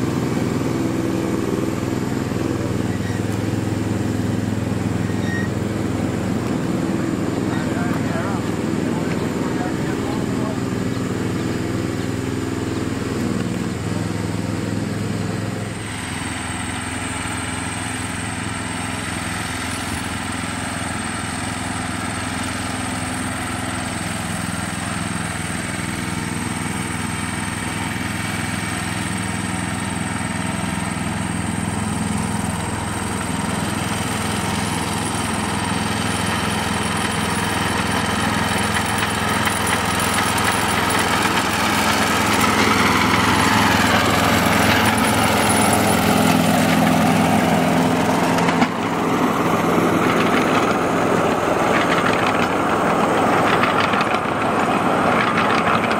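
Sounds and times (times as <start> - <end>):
miniature locomotive engine running: 0.0 - 55.9.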